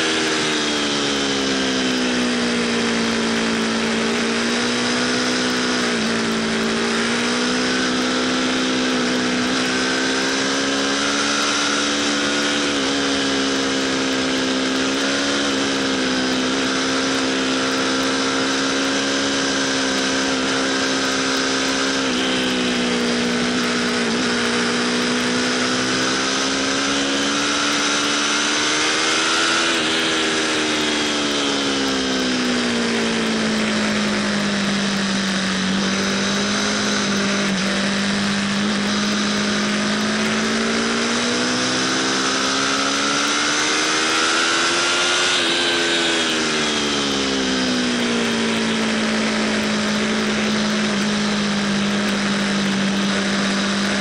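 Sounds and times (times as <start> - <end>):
motorcycle engine at high revs: 0.0 - 54.0
wind and road noise: 0.0 - 54.0.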